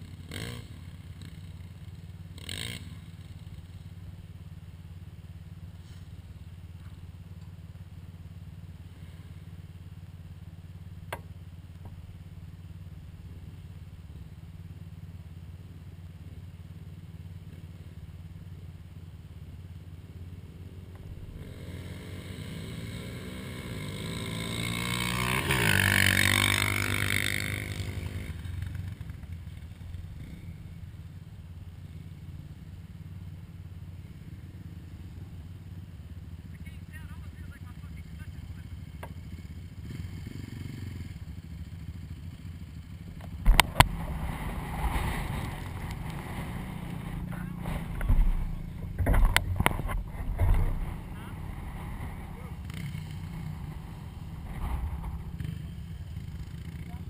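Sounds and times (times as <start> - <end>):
atv engine idling: 0.0 - 57.0
atv passing by: 0.0 - 57.0.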